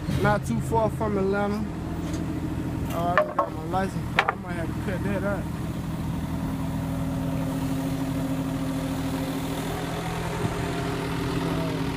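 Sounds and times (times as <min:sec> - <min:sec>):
car engine idling: 0:00.7 - 0:11.9.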